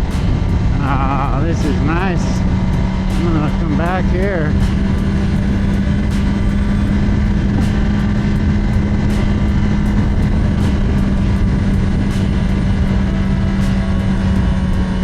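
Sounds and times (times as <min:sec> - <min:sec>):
loud rush of noise: 0:00.0 - 0:15.0
motorcycle engine running: 0:00.0 - 0:15.0.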